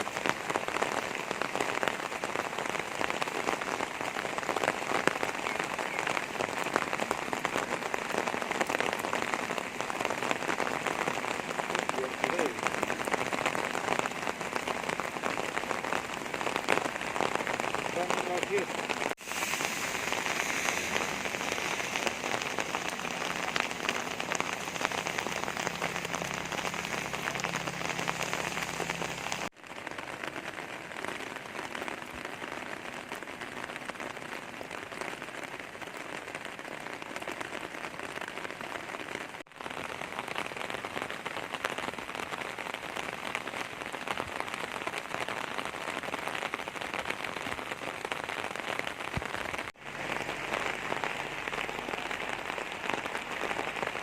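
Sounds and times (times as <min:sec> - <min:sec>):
heavy rain on hard surfaces: 0:00.0 - 0:54.0.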